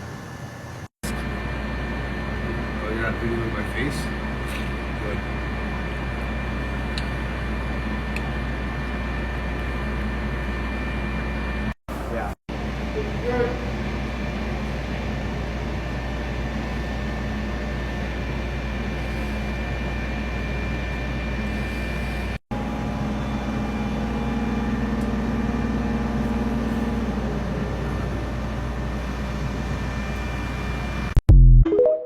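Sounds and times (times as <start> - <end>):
engine room machinery drone: 0.0 - 31.2.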